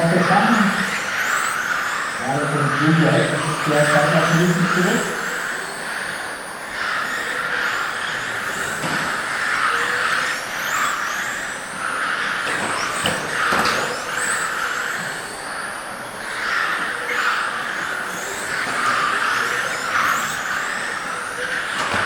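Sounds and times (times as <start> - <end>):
rc car motors whining: 0.0 - 22.0.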